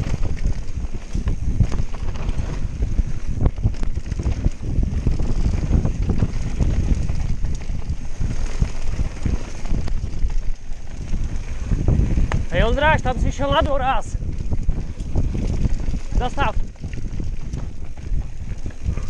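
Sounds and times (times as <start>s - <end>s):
bike rattling and knocking: 0.0s - 19.0s
bike tyres rumbling on dirt: 0.0s - 19.0s
wind buffeting microphone: 0.0s - 19.0s.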